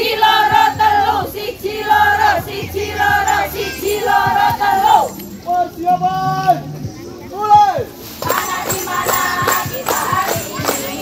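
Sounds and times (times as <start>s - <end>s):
high voices chanting in unison: 0.0s - 6.8s, 8.2s - 11.0s.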